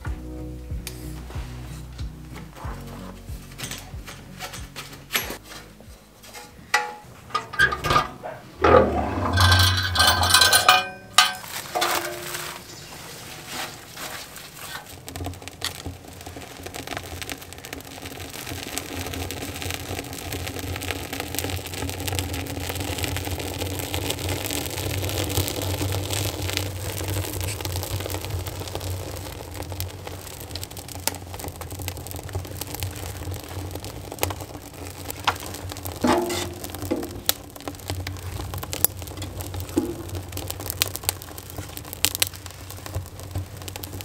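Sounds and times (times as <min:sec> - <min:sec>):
fire crackling and popping: 0:00.0 - 0:44.0
low rumble of flame: 0:00.0 - 0:44.0.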